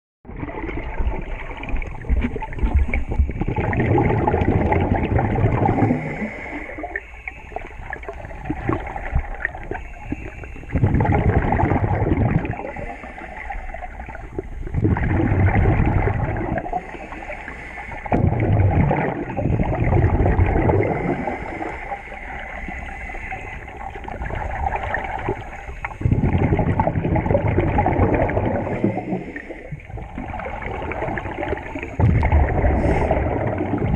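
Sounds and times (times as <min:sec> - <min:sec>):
underwater exhaled bubbles gurgling: 0:00.3 - 0:33.9.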